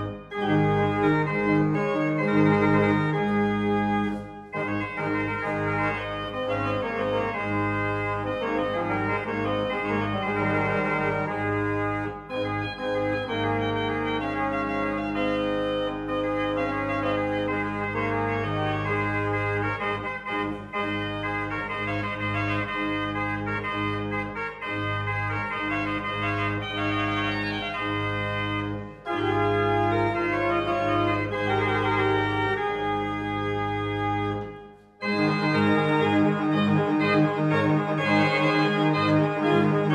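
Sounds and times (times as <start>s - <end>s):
organ chords: 0.0s - 39.9s.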